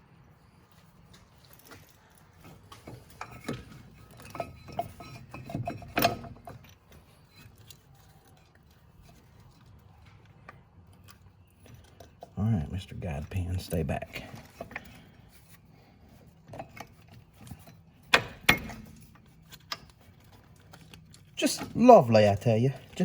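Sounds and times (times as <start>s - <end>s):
metal parts clinking and scraping: 1.4s - 12.4s, 13.2s - 23.0s.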